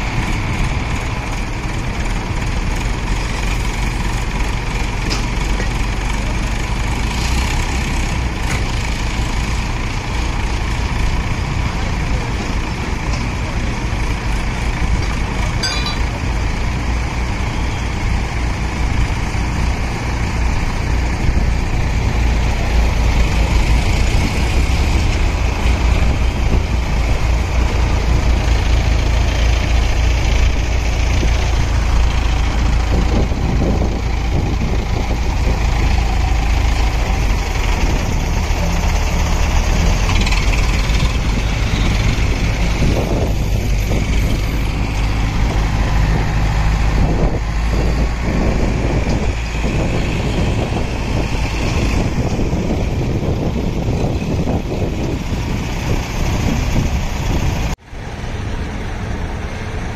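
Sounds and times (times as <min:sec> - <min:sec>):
heavy vehicle engine rumbling: 0:00.0 - 0:59.9.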